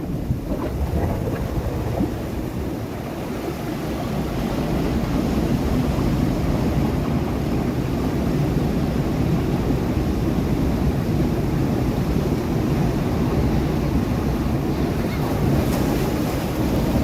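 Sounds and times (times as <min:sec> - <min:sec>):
sea surf breaking against rocks: 0:00.0 - 0:17.0.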